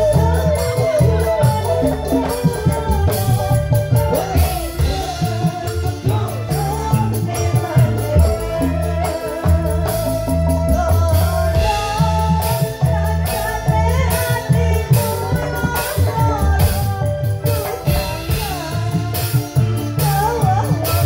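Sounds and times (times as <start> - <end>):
bass: 0.0 - 21.0
keyboard: 0.0 - 21.0
steady drum beat: 0.0 - 21.0
woman singing into a microphone: 0.0 - 21.0.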